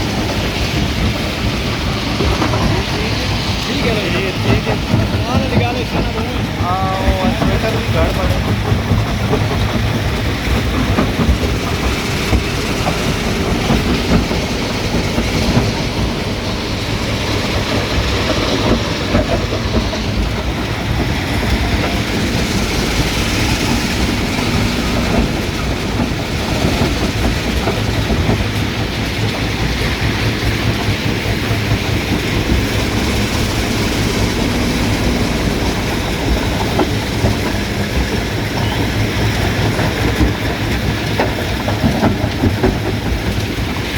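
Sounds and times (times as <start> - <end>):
irregular knocks: 0.0 - 43.9.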